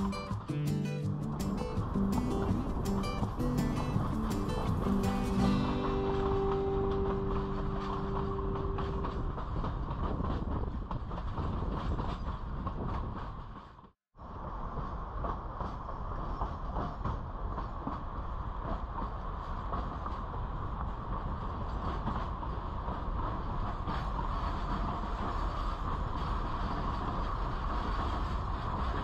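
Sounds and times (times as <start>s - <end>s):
train wheels clicking: 0.0s - 13.8s, 14.5s - 29.0s
train rumbling and rattling: 0.0s - 29.0s.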